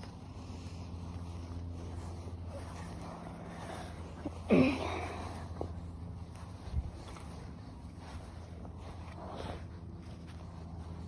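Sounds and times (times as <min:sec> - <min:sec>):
footsteps on grass: 0:00.0 - 0:11.0
steady low hum: 0:00.0 - 0:11.0.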